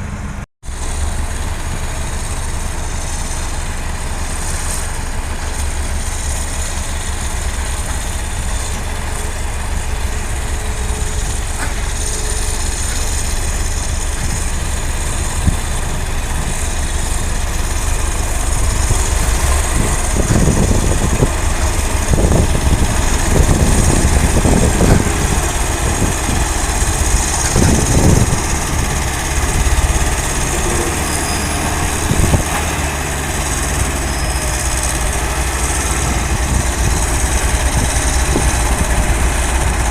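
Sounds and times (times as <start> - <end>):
diesel machinery engine rumbling: 0.0 - 39.9.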